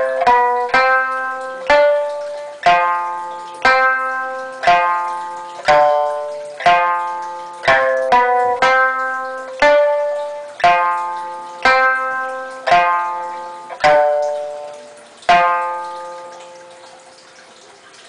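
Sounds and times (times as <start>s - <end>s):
plucked string melody: 0.0s - 17.3s.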